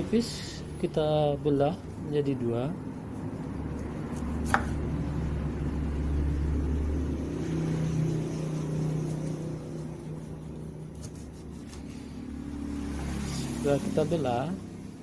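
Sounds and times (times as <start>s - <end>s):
vehicle engine rumble passing by: 0.0s - 15.0s.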